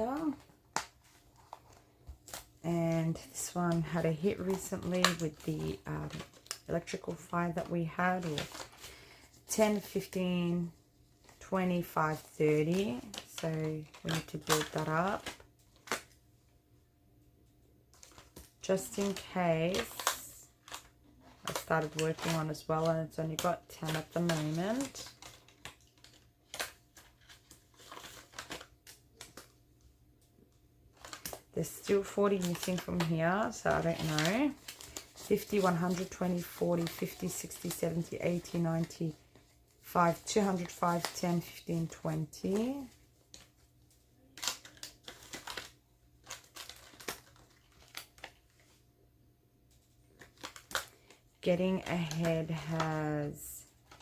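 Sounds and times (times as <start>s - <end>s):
banknotes and plastic pockets rustling: 0.0s - 16.2s, 17.9s - 29.6s, 30.9s - 48.8s, 49.7s - 54.0s.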